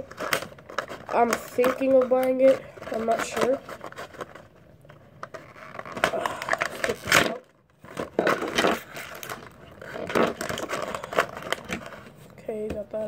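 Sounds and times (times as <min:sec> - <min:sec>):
plastic packaging crackling: 0:00.0 - 0:12.4.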